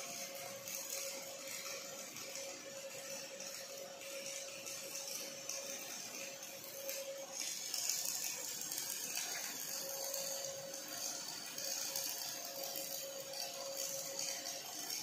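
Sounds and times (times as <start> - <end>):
welding arc hissing: 0.1 - 15.0.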